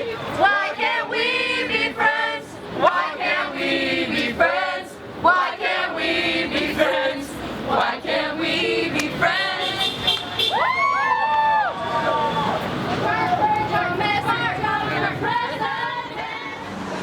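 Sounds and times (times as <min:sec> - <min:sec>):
group singing in chorus: 0:00.0 - 0:10.0, 0:13.1 - 0:17.0.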